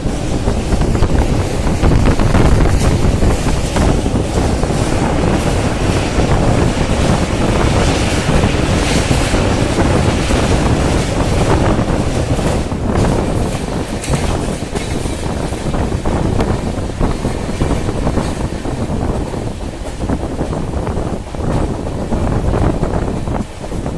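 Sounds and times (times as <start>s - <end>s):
train wheels rumbling on rails: 0.0s - 23.9s
wind buffeting microphone: 0.0s - 23.9s.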